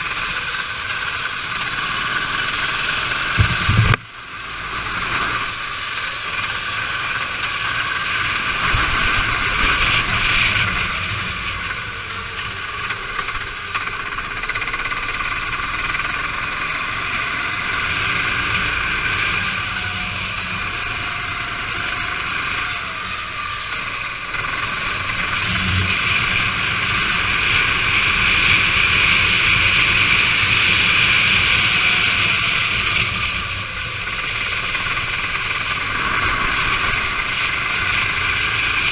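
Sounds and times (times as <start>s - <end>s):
go-kart engine running hard: 0.0s - 38.9s.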